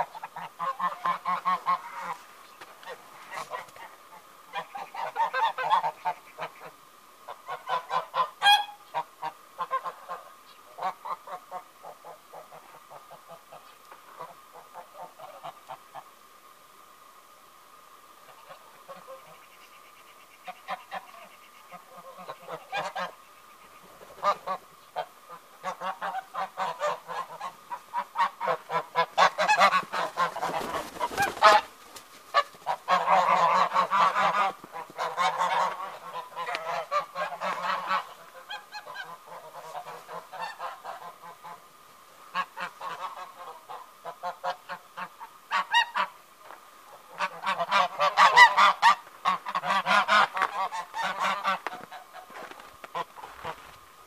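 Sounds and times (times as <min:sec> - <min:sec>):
geese honking: 0:00.0 - 0:16.0, 0:20.4 - 0:53.8.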